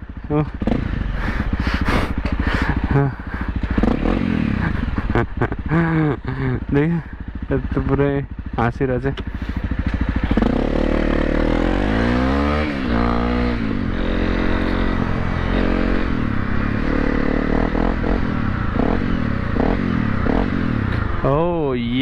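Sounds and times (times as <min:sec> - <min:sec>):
dirt bike engine revving: 0:00.4 - 0:22.0.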